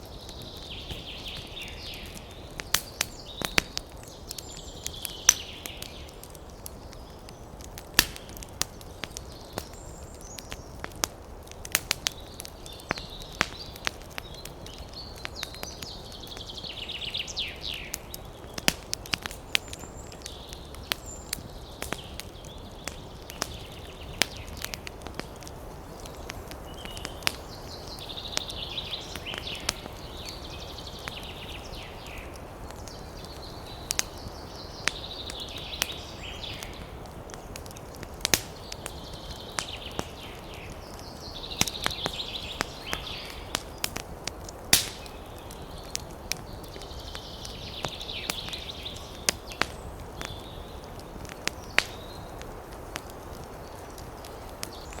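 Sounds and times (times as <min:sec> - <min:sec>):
birds twittering: 0:00.0 - 0:52.7, 0:53.3 - 0:55.0
campfire crackling and popping: 0:00.0 - 0:55.0.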